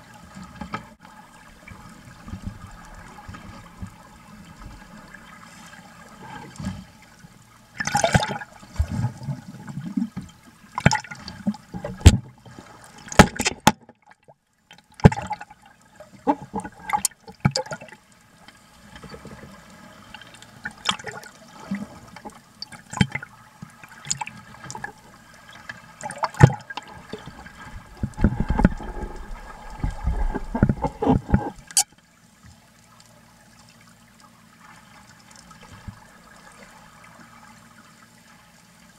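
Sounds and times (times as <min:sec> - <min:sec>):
underwater water sloshing and bubbling: 0:00.0 - 0:38.9.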